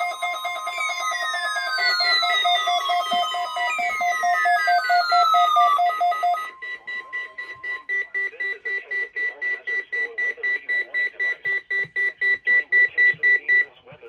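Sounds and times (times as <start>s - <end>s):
rapid electronic beeping: 0.0s - 13.8s.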